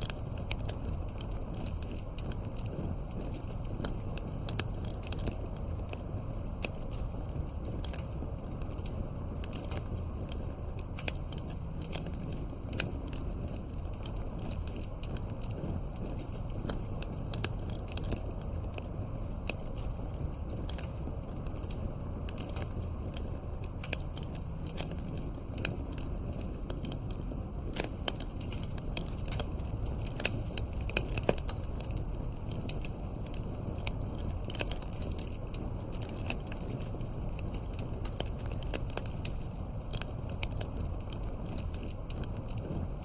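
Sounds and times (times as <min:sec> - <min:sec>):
burning wood crackling and popping: 0:00.0 - 0:43.0
low rumble of flames: 0:00.0 - 0:43.0.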